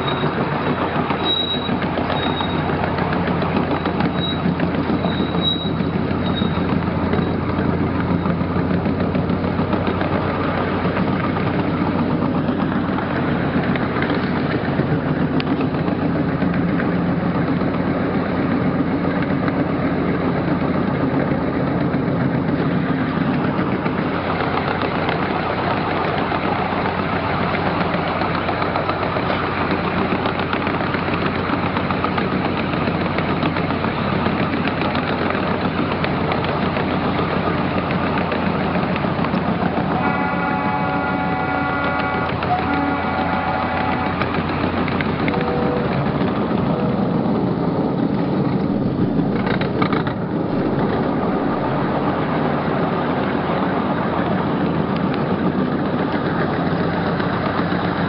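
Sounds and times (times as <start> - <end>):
miniature train engine hum: 0.0 - 58.0
wheels rattling on track: 0.0 - 58.0.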